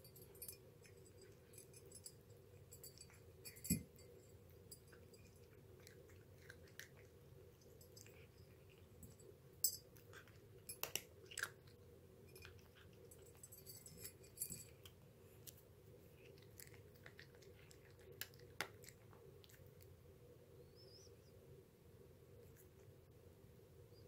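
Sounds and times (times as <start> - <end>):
cat chewing food: 0.6 - 20.0.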